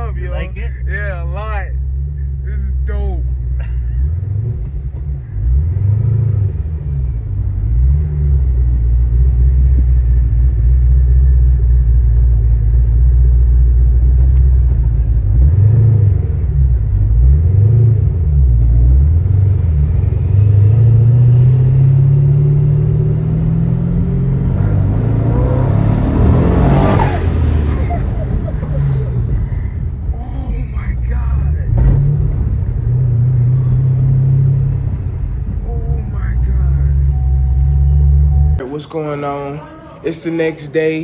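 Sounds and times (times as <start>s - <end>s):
car engine revving: 0.0s - 40.8s.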